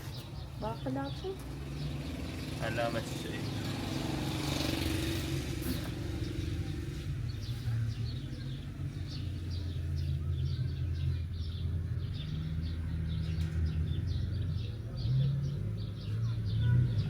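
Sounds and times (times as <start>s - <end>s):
low engine hum: 0.0s - 17.0s
small birds chirping: 0.0s - 17.0s.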